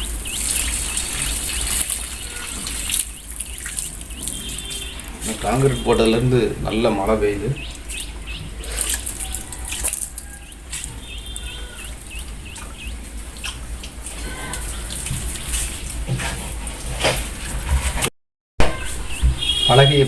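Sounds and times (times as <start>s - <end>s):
small birds chirping: 0.0s - 15.9s, 18.7s - 20.0s.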